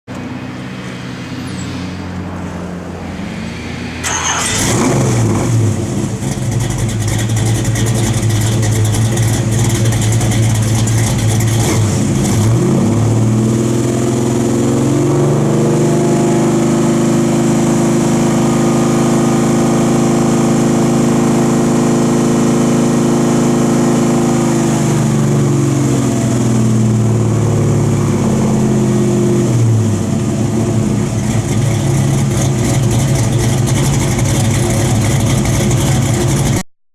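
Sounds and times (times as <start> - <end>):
car engine idling and revving: 0.1 - 36.6.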